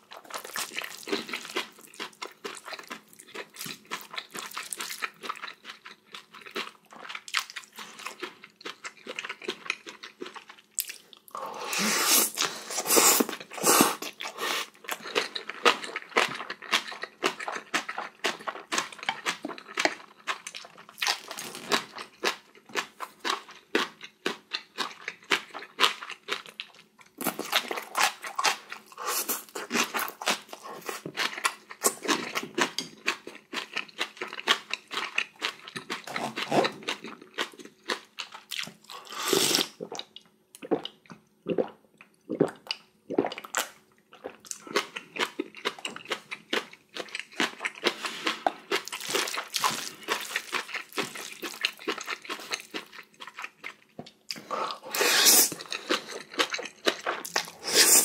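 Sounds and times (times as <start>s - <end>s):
chewing and crunching food: 0.0s - 58.0s.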